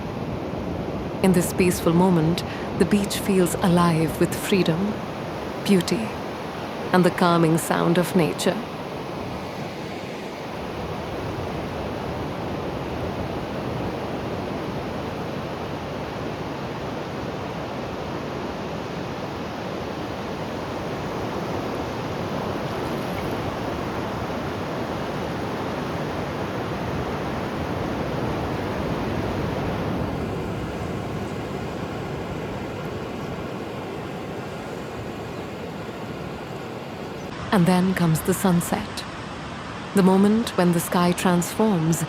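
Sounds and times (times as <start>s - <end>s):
ocean waves washing onto beach: 0.0s - 42.0s.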